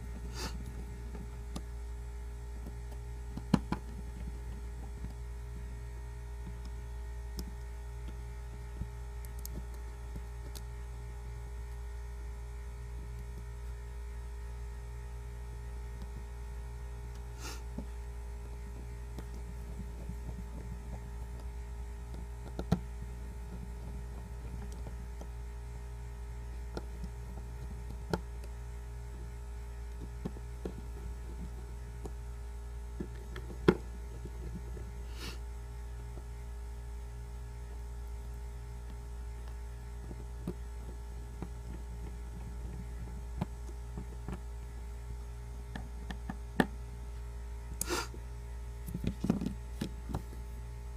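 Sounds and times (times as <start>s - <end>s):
low electrical hum: 0.0s - 50.9s.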